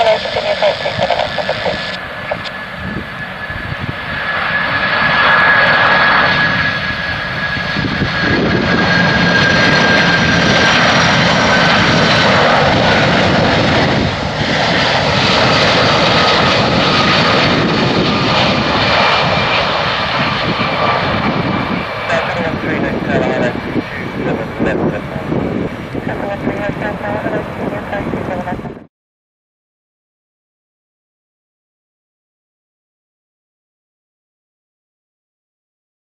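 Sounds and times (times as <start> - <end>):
jet engines roaring: 0.0 - 28.8
jet engine whine: 0.0 - 28.9.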